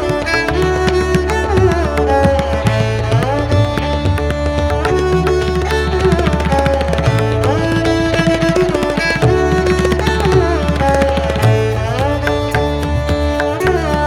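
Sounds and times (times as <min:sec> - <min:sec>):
low bass: 0:00.0 - 0:14.0
percussion strokes: 0:00.0 - 0:14.0.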